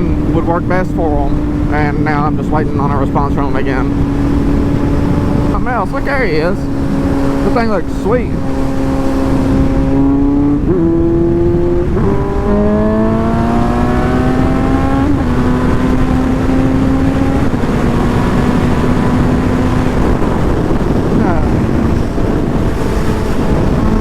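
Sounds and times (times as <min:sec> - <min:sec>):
motorcycle engine under way: 0:00.0 - 0:24.0
wind rushing: 0:00.0 - 0:24.0.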